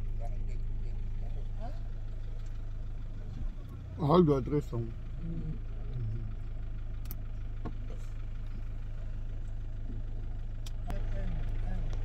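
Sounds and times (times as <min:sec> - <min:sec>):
car engine low hum: 0:00.0 - 0:12.0.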